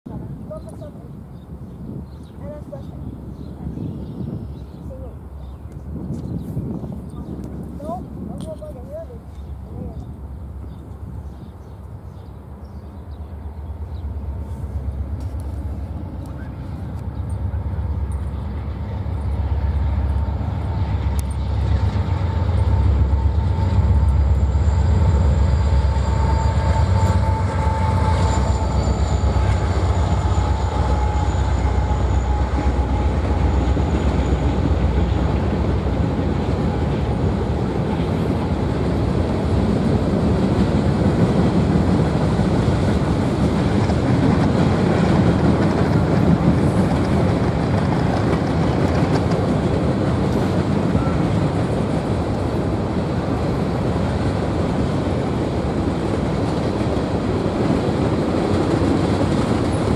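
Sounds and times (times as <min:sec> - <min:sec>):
locomotive engine rumble: 0:00.1 - 0:59.9
train wheels on rails: 0:05.3 - 0:59.9.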